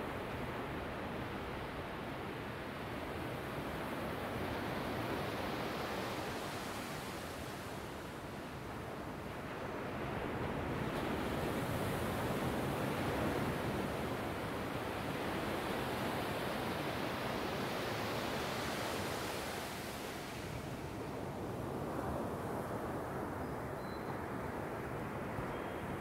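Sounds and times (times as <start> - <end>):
waves washing up a beach: 0.0 - 23.4.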